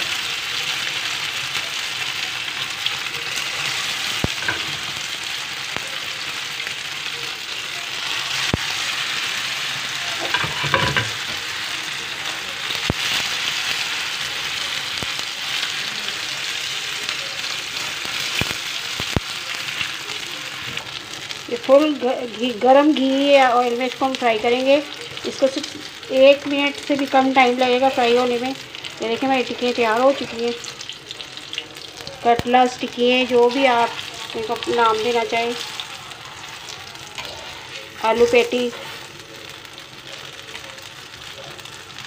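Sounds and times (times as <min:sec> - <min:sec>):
cutlets sizzling in oil: 0:00.0 - 0:42.0.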